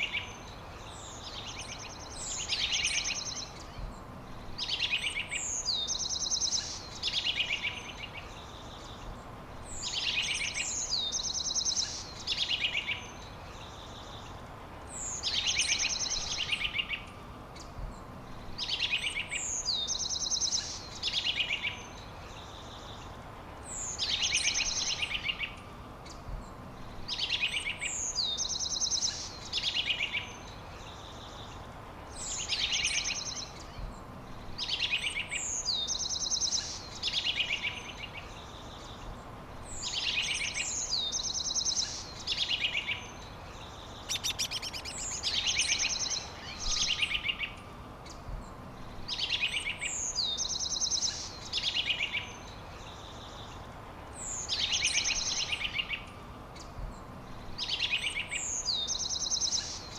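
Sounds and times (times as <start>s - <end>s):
songbird singing with buzzy trill: 0.0s - 59.9s
steady background hiss: 0.0s - 59.9s.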